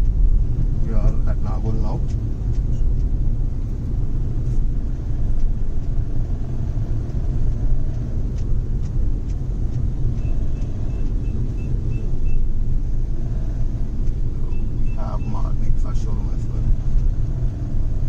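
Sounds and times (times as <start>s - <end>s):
engine and road rumble in car: 0.0s - 18.0s.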